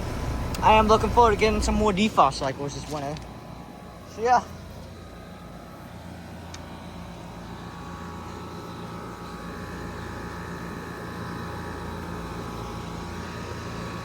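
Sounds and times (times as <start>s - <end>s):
heat pump droning: 0.0s - 14.0s.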